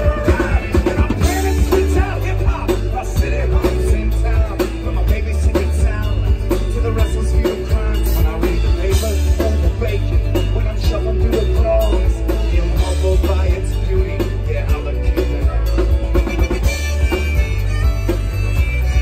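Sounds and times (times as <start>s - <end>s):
live band music: 0.0s - 19.0s
melodic lead line: 0.0s - 19.0s
strummed acoustic guitars: 0.0s - 19.0s.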